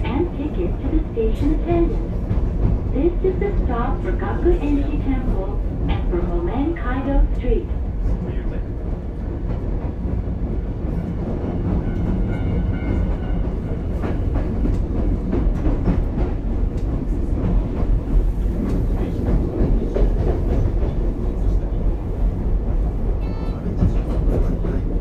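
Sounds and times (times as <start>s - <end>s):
train rumbling inside car: 0.0s - 25.0s.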